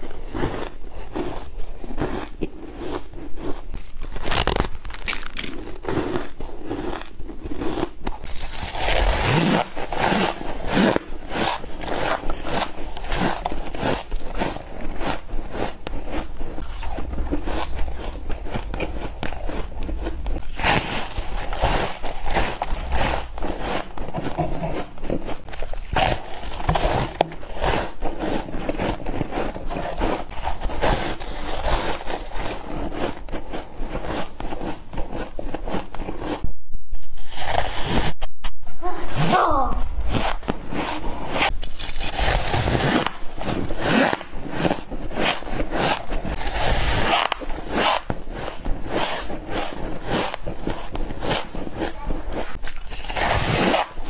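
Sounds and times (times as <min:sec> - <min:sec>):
person chewing ice crunching: 0:00.0 - 0:36.4, 0:39.8 - 0:54.0.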